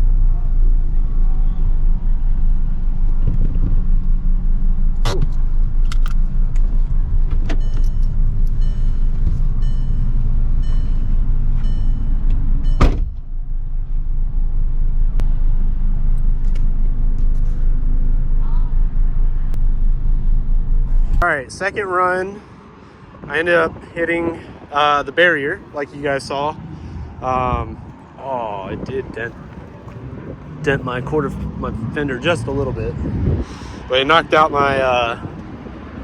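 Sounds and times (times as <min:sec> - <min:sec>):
car engine running under load: 0:00.0 - 0:21.2, 0:26.6 - 0:36.0.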